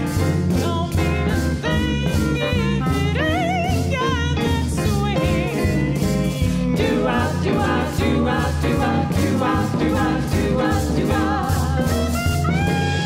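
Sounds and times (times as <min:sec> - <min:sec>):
women singing with vibrato: 0:00.0 - 0:12.8
swing band playing: 0:00.0 - 0:13.0.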